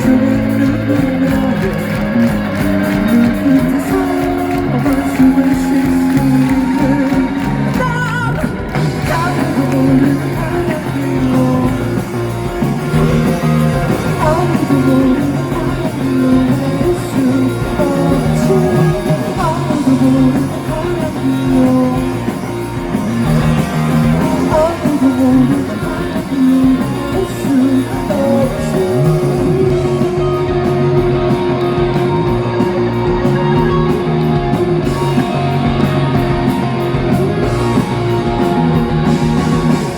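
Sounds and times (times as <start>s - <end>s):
electric guitars: 0.0s - 39.9s
live rock band: 0.0s - 39.9s
person singing: 0.0s - 39.9s.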